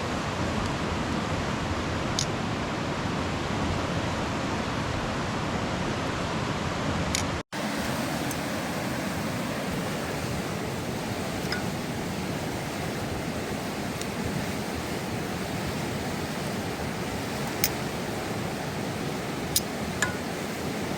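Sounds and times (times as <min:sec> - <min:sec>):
river water rushing: 0:00.0 - 0:20.9.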